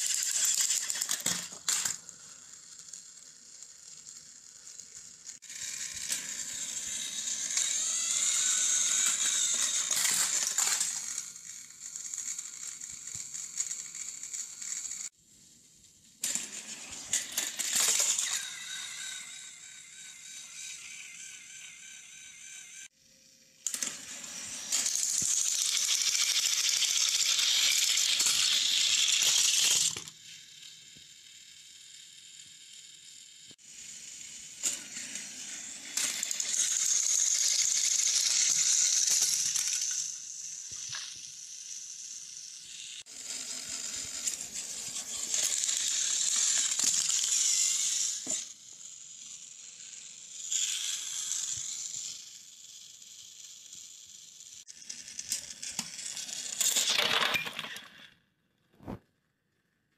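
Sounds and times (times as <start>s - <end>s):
toy train rattling whir: 0.0s - 59.0s.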